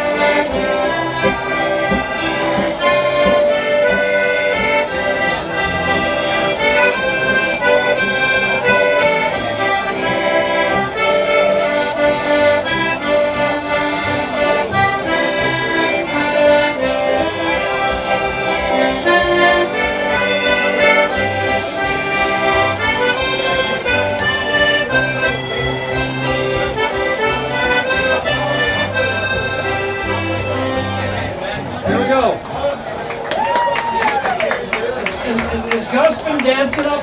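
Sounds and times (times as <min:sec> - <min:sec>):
accordion playing a tune: 0:00.0 - 0:32.3.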